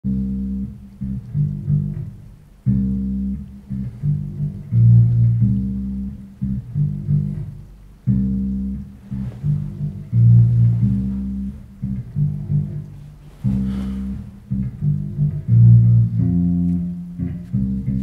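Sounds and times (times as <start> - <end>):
bass guitar riff: 0.0 - 18.0.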